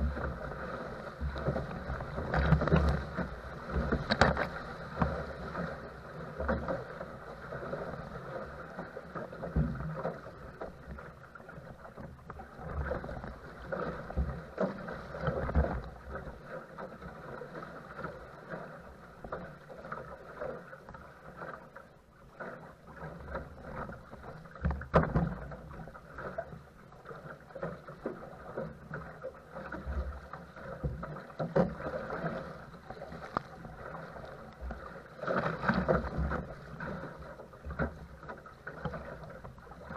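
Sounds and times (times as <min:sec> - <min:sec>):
water splashing against boat: 0:00.0 - 0:39.9.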